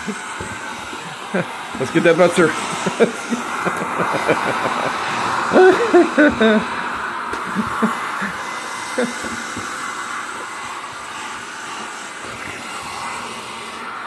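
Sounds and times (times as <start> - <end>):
blow dryer blowing: 0.0 - 14.0.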